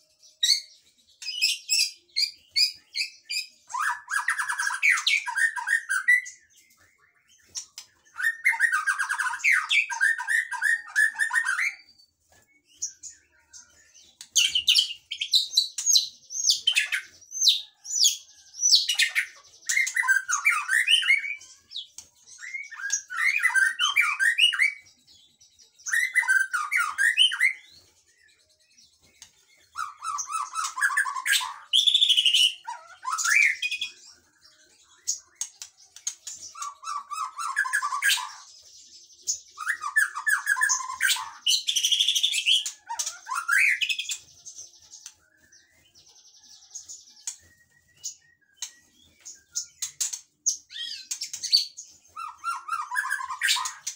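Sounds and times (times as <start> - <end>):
caged songbirds singing: 0.0 - 53.9.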